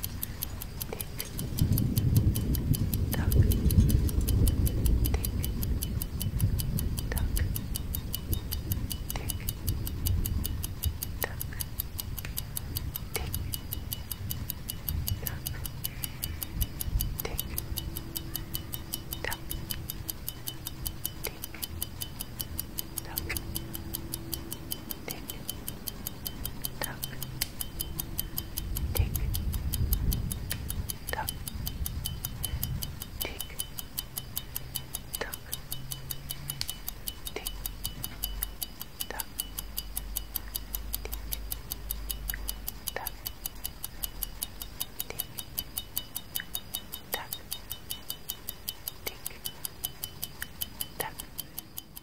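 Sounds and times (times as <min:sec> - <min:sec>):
clock ticking: 0:00.0 - 0:52.0.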